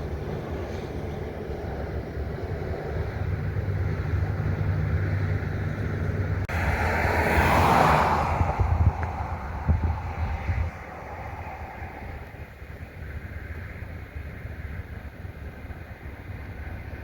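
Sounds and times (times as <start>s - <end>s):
rushing wind gust: 0.0s - 14.3s
steady low rumble: 0.0s - 17.0s
wind buffeting microphone: 0.0s - 17.0s.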